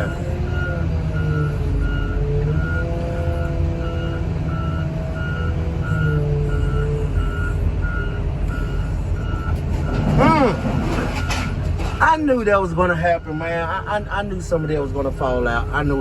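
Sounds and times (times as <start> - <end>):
backup alarm beeping: 0.0 - 16.0
diesel engine running: 0.0 - 16.0.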